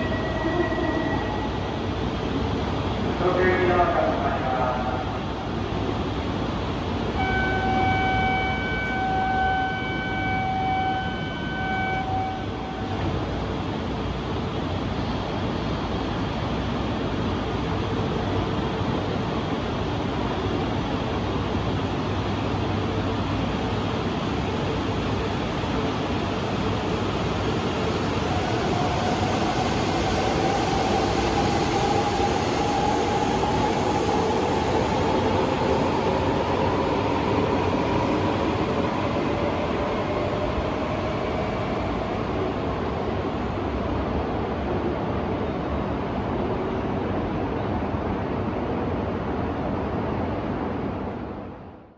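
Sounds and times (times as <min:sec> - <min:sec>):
train platform noise: 0:00.0 - 0:51.9.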